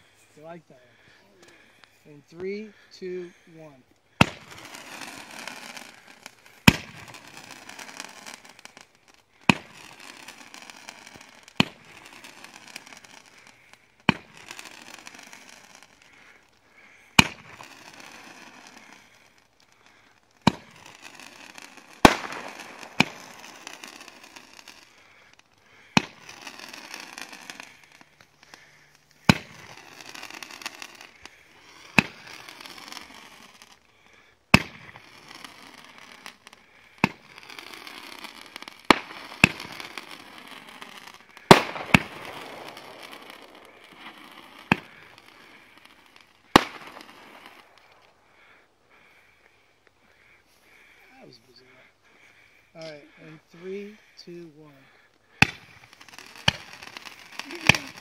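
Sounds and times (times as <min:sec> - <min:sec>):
firework hissing crackle: 0:00.0 - 0:58.0
firework bangs: 0:03.5 - 0:33.9, 0:34.5 - 0:58.0.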